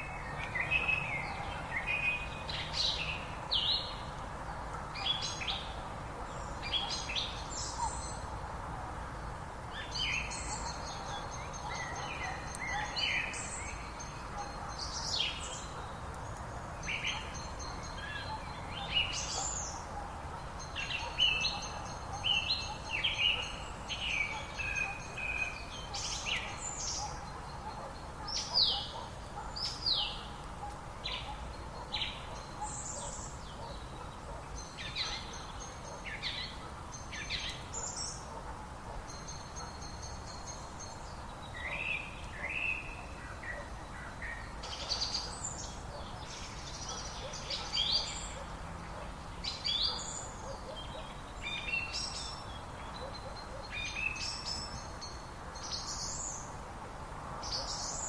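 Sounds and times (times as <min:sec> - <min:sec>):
birds calling and singing: 0:00.0 - 0:56.6, 0:57.4 - 0:58.0.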